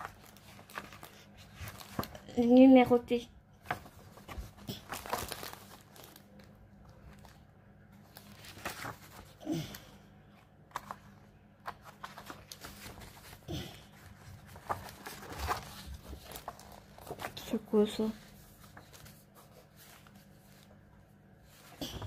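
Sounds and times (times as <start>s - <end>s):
paper pages rustling: 0.0s - 3.0s, 3.6s - 9.4s, 10.4s - 22.0s.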